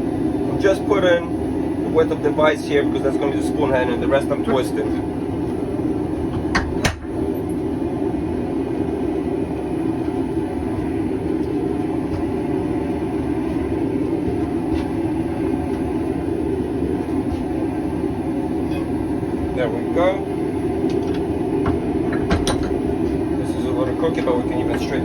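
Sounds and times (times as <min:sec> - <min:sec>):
forge roaring: 0:03.4 - 0:25.0.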